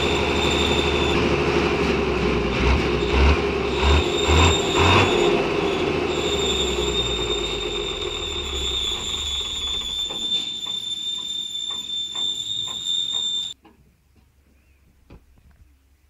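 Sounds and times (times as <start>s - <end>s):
tractor engine running: 0.0s - 13.6s.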